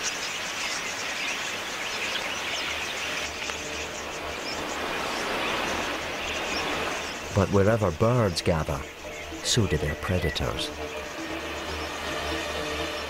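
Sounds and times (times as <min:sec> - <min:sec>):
flock of budgerigars chirping: 0:00.0 - 0:13.0.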